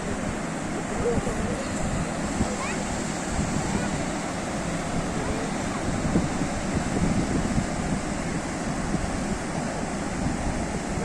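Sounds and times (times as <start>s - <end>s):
sea surf washing: 0.0s - 11.0s
wind rumble on microphone: 0.0s - 11.0s.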